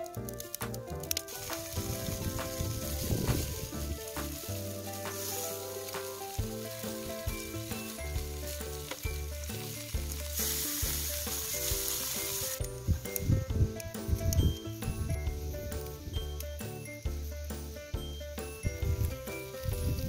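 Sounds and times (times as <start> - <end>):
background music with bass: 0.0 - 20.0
meat sizzling on a grill: 0.0 - 20.0.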